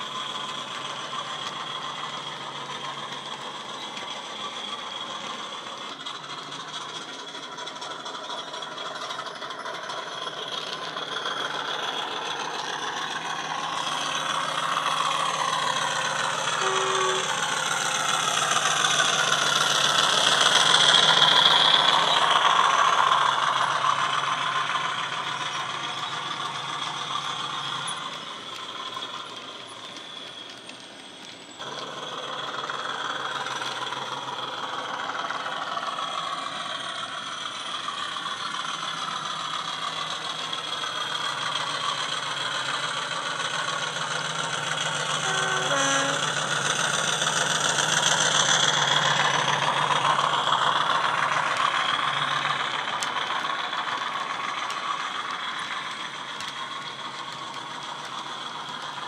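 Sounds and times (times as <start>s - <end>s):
diesel engine sound with turbo whine: 0.0s - 59.0s
model wagons rattling on track: 0.0s - 59.0s.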